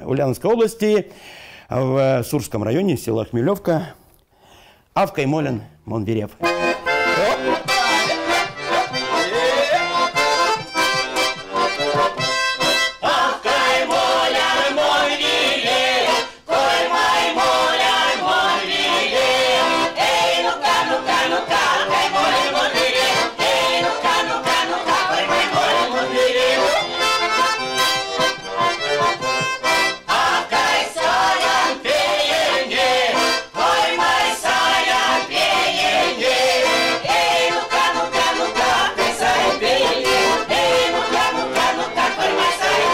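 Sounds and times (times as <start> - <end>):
accordion: 6.3 - 42.9
women singing folk songs: 6.6 - 42.9.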